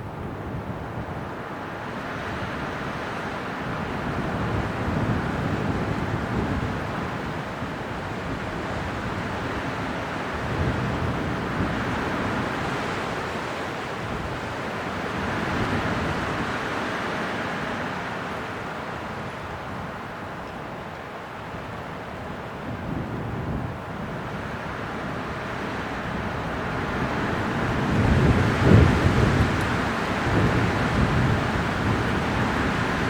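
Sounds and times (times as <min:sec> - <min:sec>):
wind blowing in gusts: 0:00.0 - 0:33.0.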